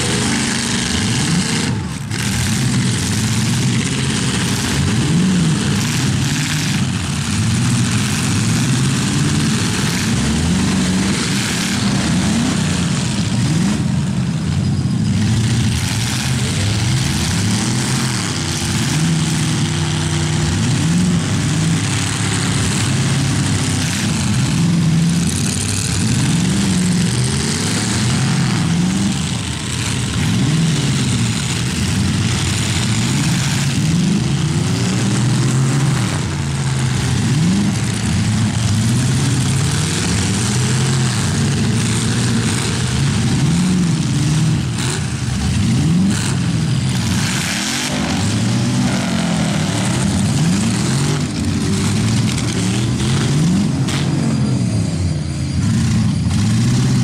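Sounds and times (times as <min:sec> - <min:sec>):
car engines revving hard: 0:00.0 - 0:57.0
wheels spinning in mud: 0:00.0 - 0:57.0.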